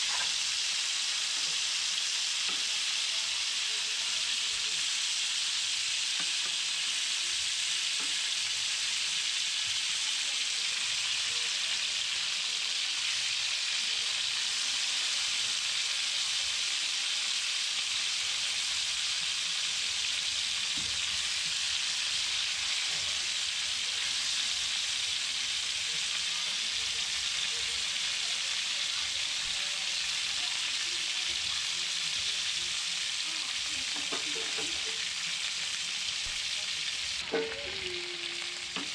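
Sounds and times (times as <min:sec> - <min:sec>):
frying in hot oil sizzle: 0:00.0 - 0:38.9.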